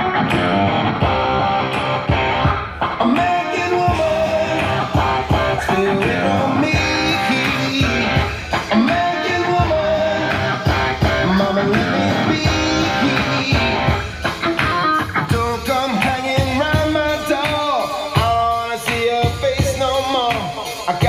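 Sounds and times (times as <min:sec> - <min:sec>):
guitar-led rock music: 0:00.0 - 0:21.0.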